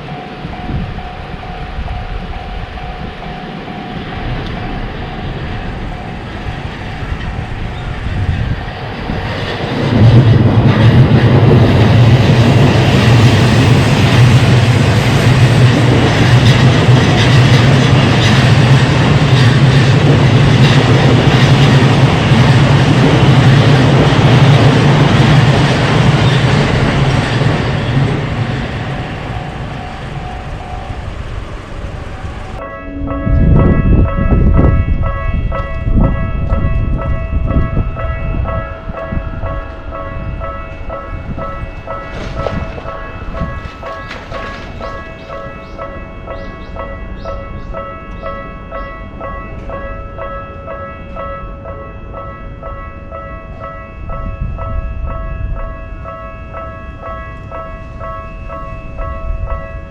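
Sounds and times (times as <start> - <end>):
level-crossing warning bell: 0.0 - 59.9
train passing with deep rumble: 0.0 - 59.9.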